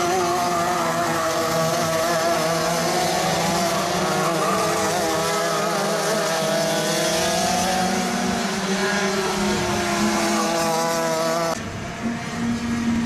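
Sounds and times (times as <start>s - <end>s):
kart engines revving: 0.0s - 13.0s.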